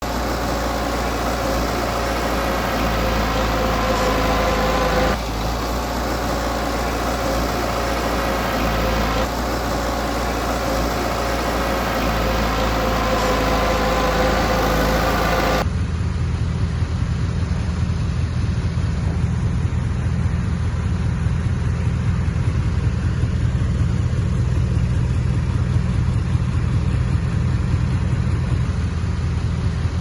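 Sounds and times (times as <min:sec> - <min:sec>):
constant whine: 0:00.0 - 0:30.0
diesel engine of earthmoving equipment: 0:00.0 - 0:30.0.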